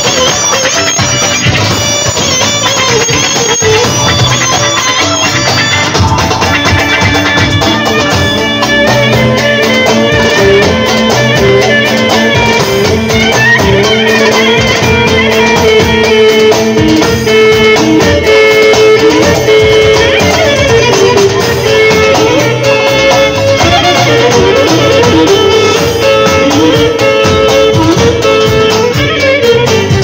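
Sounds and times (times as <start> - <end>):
ornamented folk melody: 0.0 - 30.0
steady drumbeat: 0.0 - 30.0.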